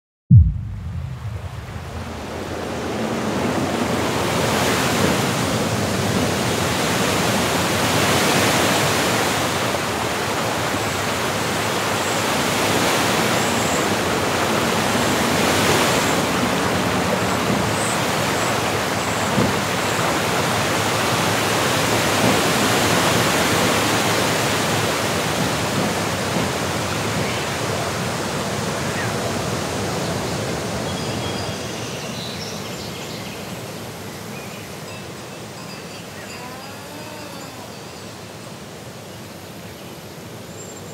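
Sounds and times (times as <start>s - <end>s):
rushing stream and waterfall: 0.3s - 40.9s.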